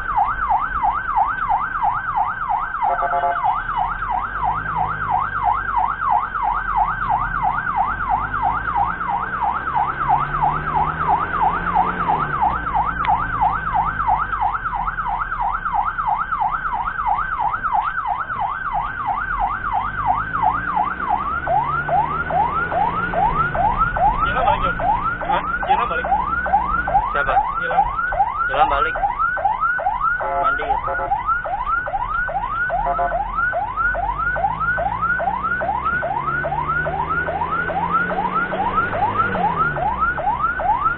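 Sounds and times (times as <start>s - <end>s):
ambulance siren: 0.0s - 40.9s
road noise: 0.0s - 40.9s
vehicle engine: 0.0s - 40.9s.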